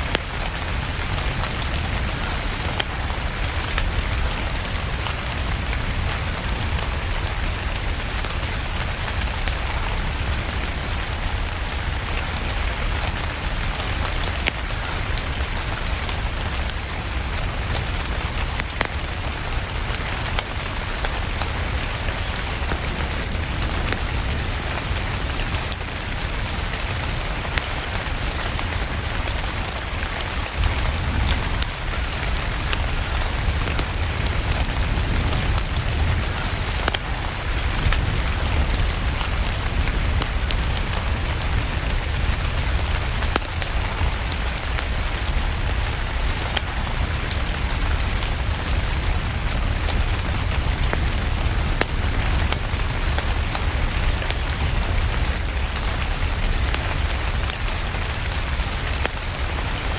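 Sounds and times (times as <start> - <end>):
steady rain falling: 0.0 - 59.9
wood fire crackling: 0.0 - 59.9.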